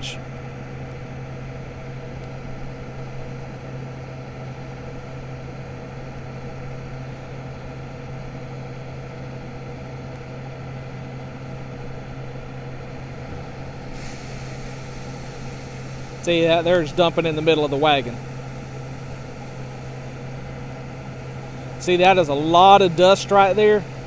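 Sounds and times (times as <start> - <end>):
combine running: 0.0 - 24.0
tractor diesel engine: 0.0 - 24.0.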